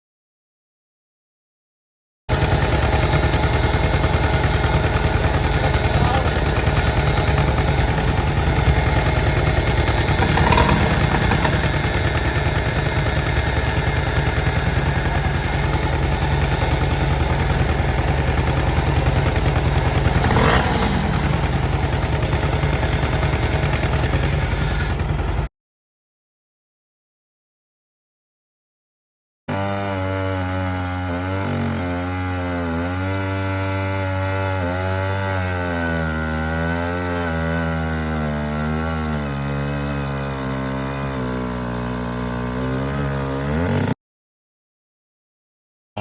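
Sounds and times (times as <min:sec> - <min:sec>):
chainsaw engine running: 0:02.3 - 0:25.5, 0:29.5 - 0:44.0.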